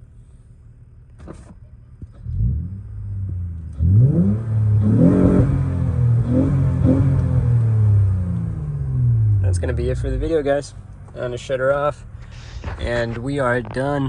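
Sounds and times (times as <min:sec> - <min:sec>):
car engine revving: 0:01.1 - 0:14.0.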